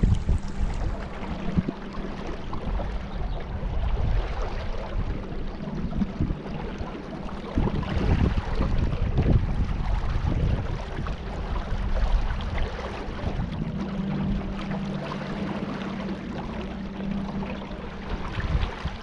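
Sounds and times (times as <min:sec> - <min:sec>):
wind noise on microphone: 0:00.0 - 0:14.7, 0:17.8 - 0:19.0.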